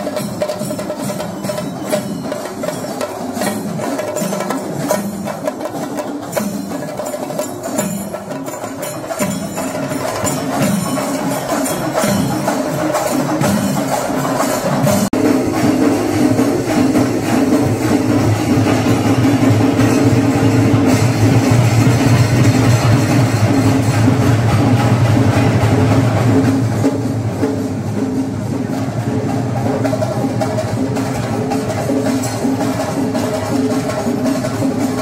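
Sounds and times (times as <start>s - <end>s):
drum-led percussion music: 0.0s - 35.0s.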